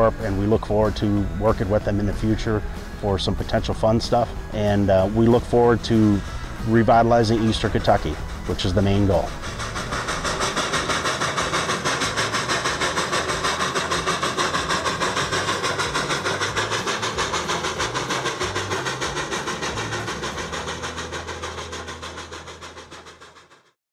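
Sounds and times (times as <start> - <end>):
steam locomotive chuffing: 0.0 - 23.8.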